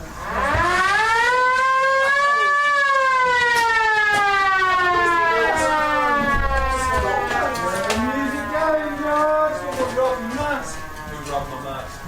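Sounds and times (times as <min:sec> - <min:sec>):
siren winding up and down: 0:00.0 - 0:12.0.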